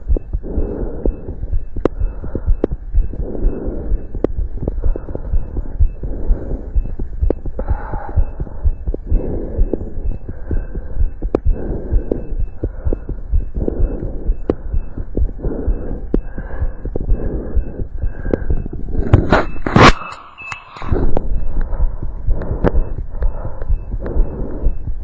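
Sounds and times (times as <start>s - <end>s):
heartbeat thumps: 0.0s - 25.0s.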